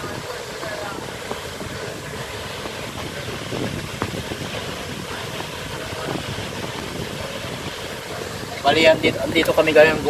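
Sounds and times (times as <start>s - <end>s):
outdoor background rumble: 0.0s - 10.0s.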